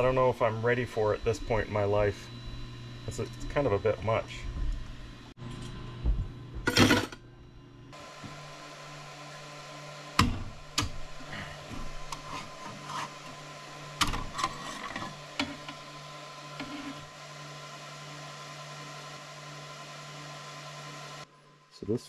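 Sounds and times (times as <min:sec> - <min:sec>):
printer humming: 0:00.0 - 0:21.6.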